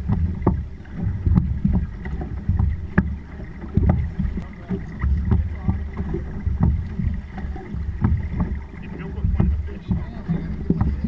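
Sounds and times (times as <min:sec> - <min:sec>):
water slapping against boat hull: 0:00.0 - 0:11.0
wind buffeting microphone: 0:00.0 - 0:11.0.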